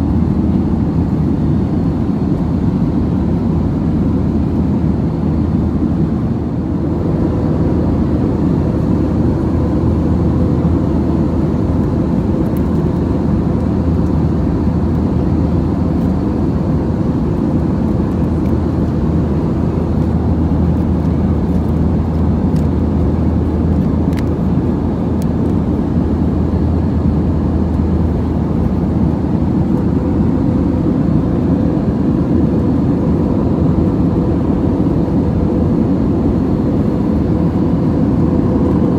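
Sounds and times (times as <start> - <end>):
airplane cabin roar: 0.0 - 38.9.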